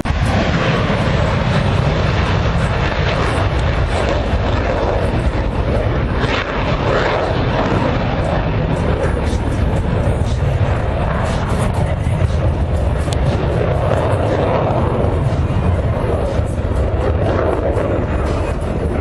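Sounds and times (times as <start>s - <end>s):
airplane engine rumble: 0.0s - 19.0s.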